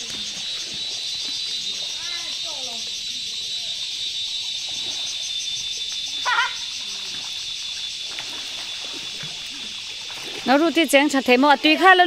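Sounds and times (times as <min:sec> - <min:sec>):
pulsing insect chorus: 0:00.0 - 0:12.0.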